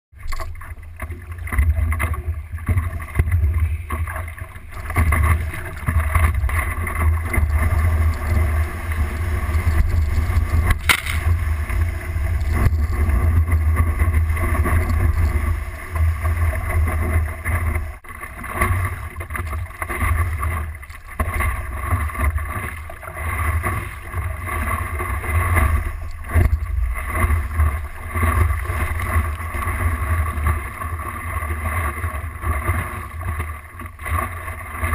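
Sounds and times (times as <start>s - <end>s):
water rushing and splashing: 0.2s - 34.9s
wind rumble on microphone: 1.5s - 34.9s.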